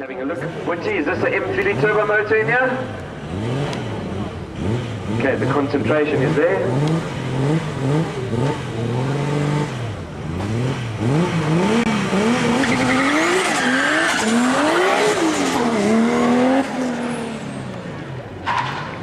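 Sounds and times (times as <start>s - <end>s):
car engine revving hard: 1.5s - 18.0s.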